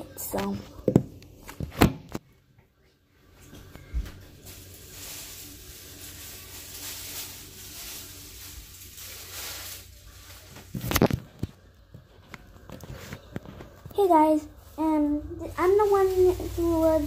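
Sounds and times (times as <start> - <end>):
handling noise on recording device: 0.2 - 17.0.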